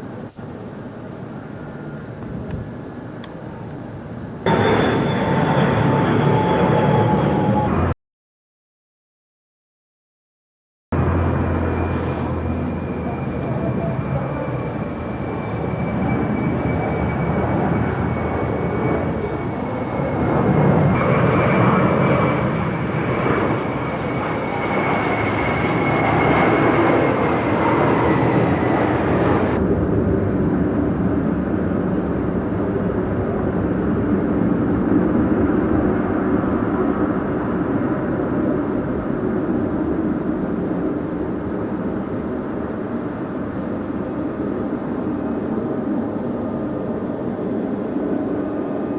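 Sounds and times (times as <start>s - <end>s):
airliner engines roaring: 0.0s - 8.0s, 10.9s - 48.9s
high engine whine: 0.0s - 8.0s, 10.9s - 48.9s.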